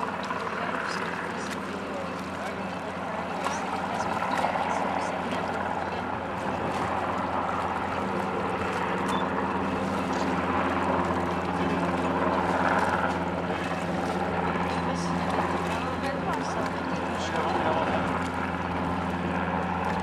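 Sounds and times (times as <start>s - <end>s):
helicopter rotor and turbine drone: 0.0s - 20.0s.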